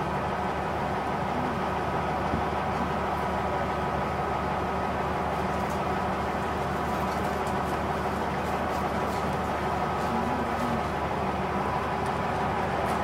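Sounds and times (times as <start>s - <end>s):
diesel engine drone: 0.0s - 13.0s
train running noise: 0.0s - 13.0s.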